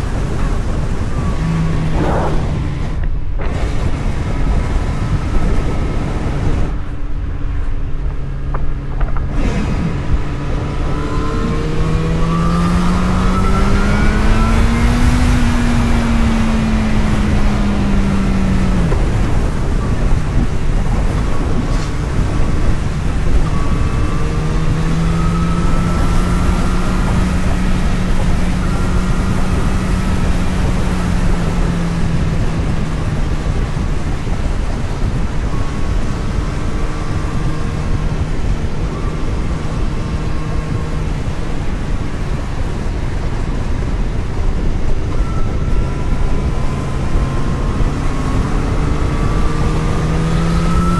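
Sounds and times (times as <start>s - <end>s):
vehicle engine: 0.0s - 50.9s
wind and tyre noise: 0.0s - 50.9s.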